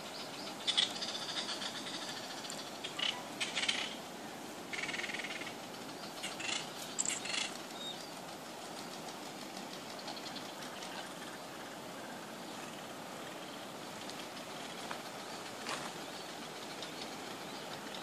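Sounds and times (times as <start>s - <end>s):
birds rattling calls: 0.0s - 18.0s
steady background hiss: 0.0s - 18.0s.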